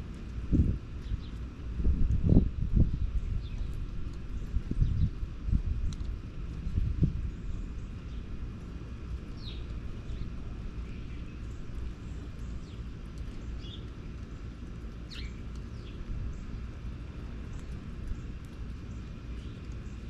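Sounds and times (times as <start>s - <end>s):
low background rumble: 0.0s - 20.0s
small birds chirping: 0.1s - 1.5s, 2.1s - 20.0s.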